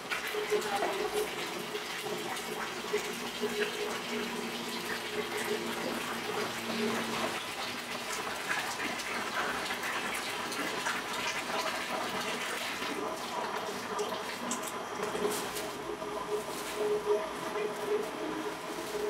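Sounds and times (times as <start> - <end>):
tap water running into metal bowl: 0.0 - 19.0.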